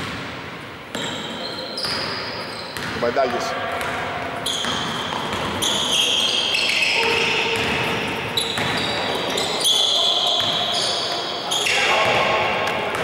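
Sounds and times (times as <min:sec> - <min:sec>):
basketball game noise in gym: 0:00.0 - 0:13.0.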